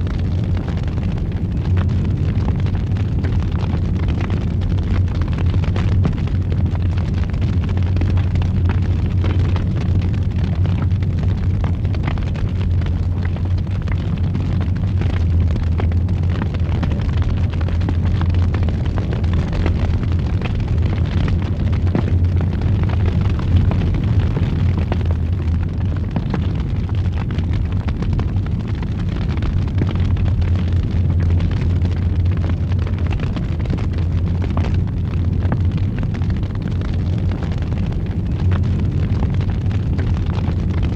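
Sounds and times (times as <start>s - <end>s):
fire crackles and pops: 0.0s - 40.9s
fire roaring in fireplace: 0.0s - 40.9s.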